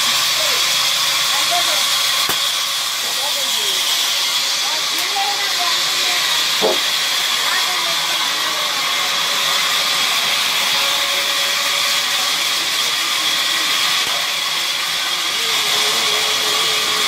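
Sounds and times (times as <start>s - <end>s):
sawmill machinery hiss and whine: 0.0s - 17.0s.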